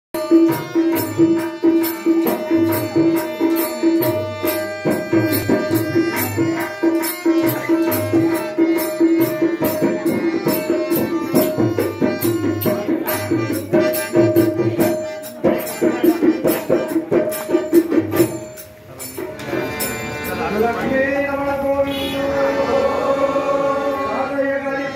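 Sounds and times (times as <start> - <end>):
harmonium holding a note: 0.2 - 18.6, 19.3 - 24.9
hand drum beat: 0.2 - 20.8
jingling percussion: 0.2 - 21.3.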